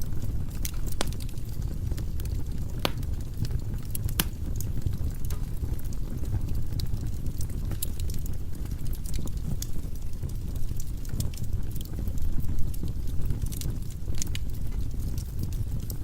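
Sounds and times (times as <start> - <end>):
fire flames rumbling: 0.0 - 16.0
firewood crackling and popping: 0.0 - 16.0.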